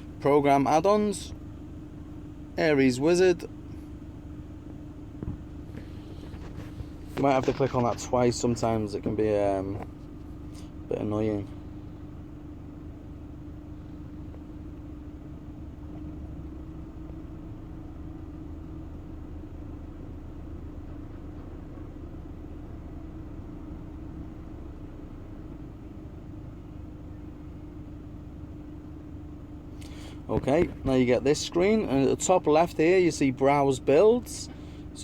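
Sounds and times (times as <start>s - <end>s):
constant mid-low tone: 0.0s - 35.0s
low background hum: 0.0s - 35.0s.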